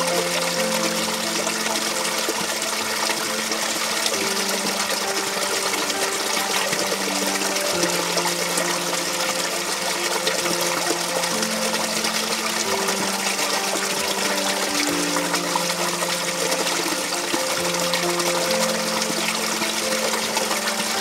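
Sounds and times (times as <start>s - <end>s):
water splashing over rocks: 0.0s - 21.0s.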